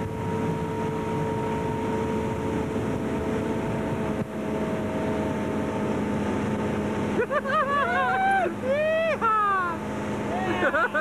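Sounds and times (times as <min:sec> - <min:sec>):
motorboat engine drone: 0:00.0 - 0:11.0.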